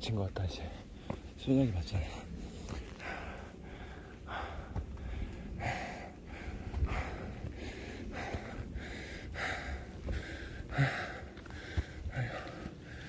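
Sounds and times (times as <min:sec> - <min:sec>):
man breathing hard: 0:02.0 - 0:13.0.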